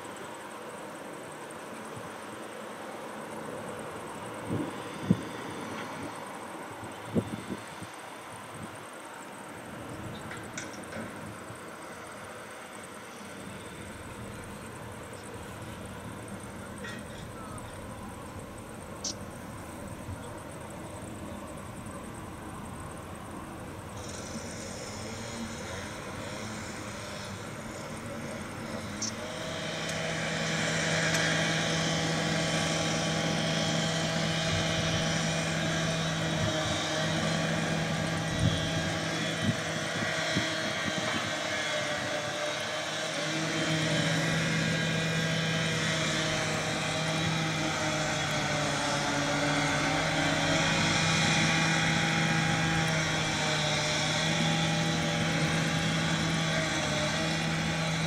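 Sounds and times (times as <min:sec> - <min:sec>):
locomotive engine droning: 0:00.0 - 0:58.0.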